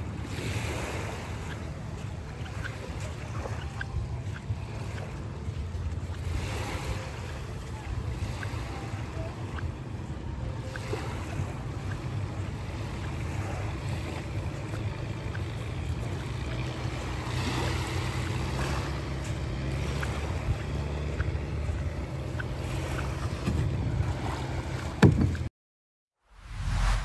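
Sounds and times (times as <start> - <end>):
ferry engine hum: 0.0 - 25.5
rushing water: 0.0 - 25.5
wind: 0.0 - 25.5, 26.2 - 27.0.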